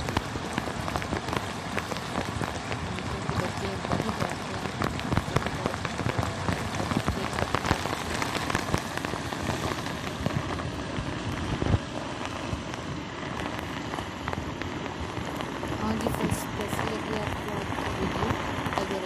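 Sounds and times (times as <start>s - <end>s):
floodwater rushing: 0.0s - 19.0s
heavy rain pouring: 0.0s - 19.0s.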